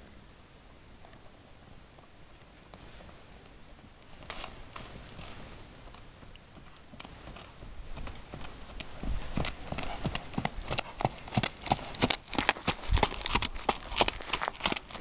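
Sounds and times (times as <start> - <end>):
horse hooves on dry dirt: 0.9 - 15.0.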